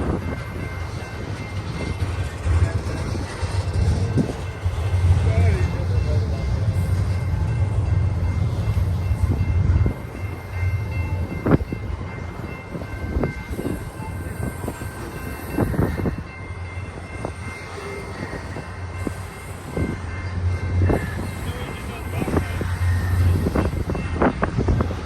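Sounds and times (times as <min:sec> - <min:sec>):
freight train heavy rumble: 0:00.0 - 0:25.0
train cars clattering: 0:00.0 - 0:25.0.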